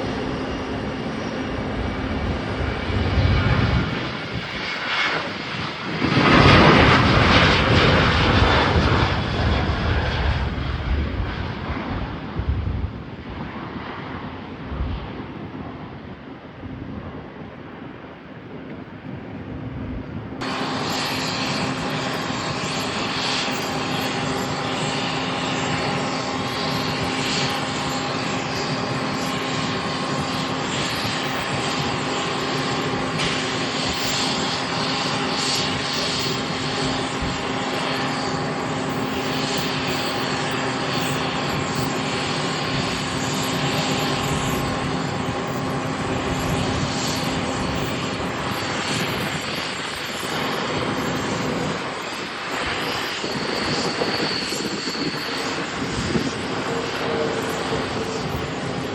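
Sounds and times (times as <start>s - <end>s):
airliner engines running: 0.0s - 58.9s.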